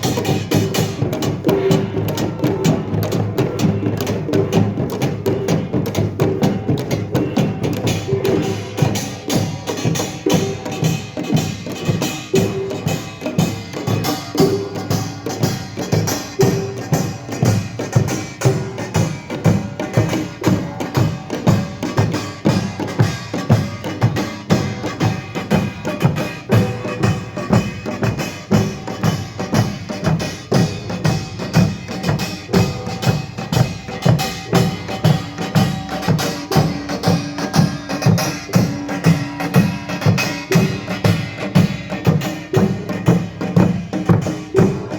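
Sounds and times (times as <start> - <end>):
drums beating: 0.0 - 44.9.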